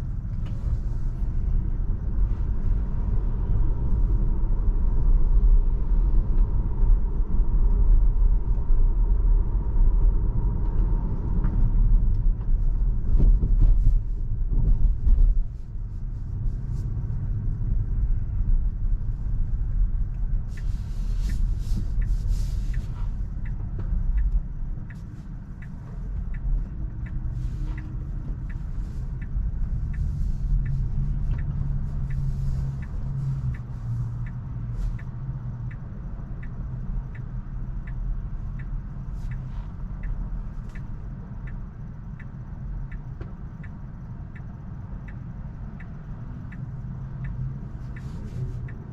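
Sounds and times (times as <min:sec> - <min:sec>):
turn signal ticking: 0:00.0 - 0:48.9.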